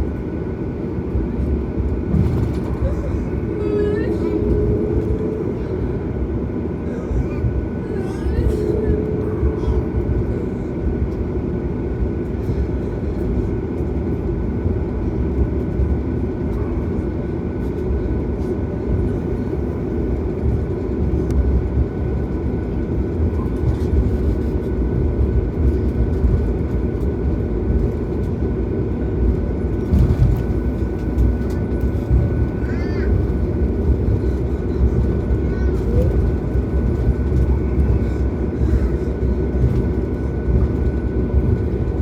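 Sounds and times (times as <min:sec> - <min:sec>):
airplane engines rumbling: 0:00.0 - 0:42.0.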